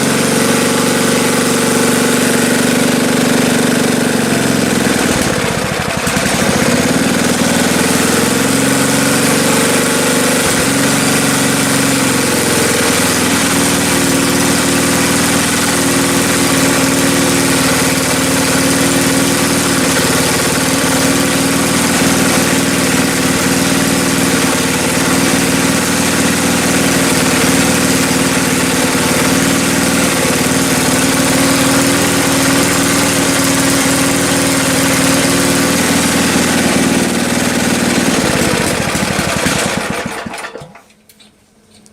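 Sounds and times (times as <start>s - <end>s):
snowblower engine running: 0.0s - 41.0s.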